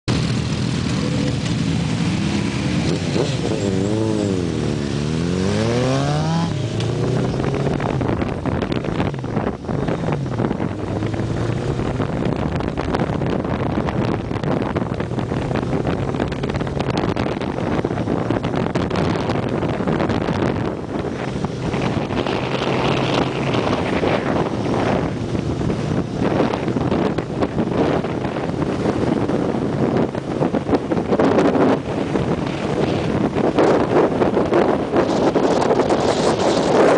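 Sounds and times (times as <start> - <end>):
motorcycle engine revving: 0.1 - 36.9
wind noise on microphone: 0.1 - 36.9.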